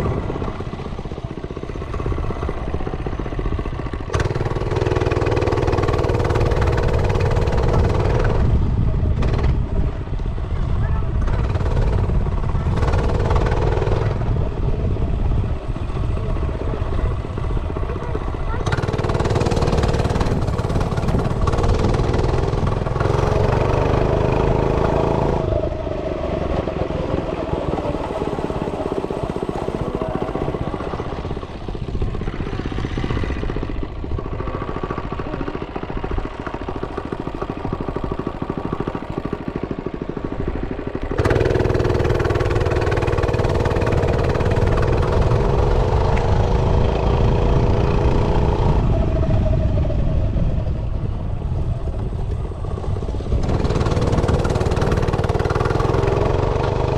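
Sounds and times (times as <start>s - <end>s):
mini bike engine running: 0.0s - 56.9s.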